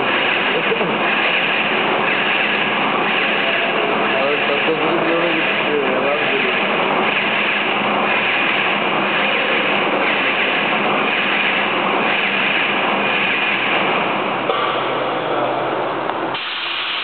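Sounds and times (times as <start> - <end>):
moulding machine running: 0.0 - 15.6.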